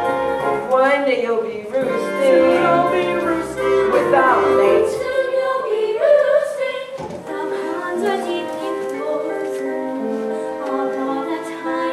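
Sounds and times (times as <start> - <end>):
stage musical song with singers: 0.0 - 11.9.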